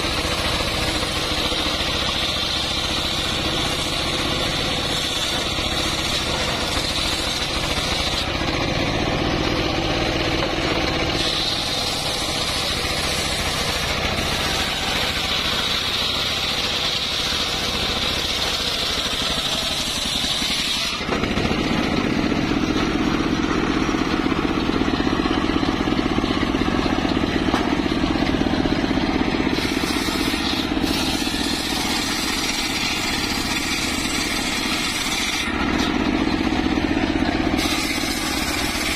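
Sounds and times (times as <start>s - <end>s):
circular sawmill cutting log: 0.0s - 38.9s.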